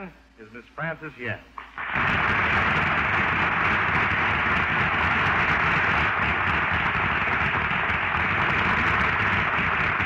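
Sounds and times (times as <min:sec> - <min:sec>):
audience applause: 0:01.6 - 0:10.0.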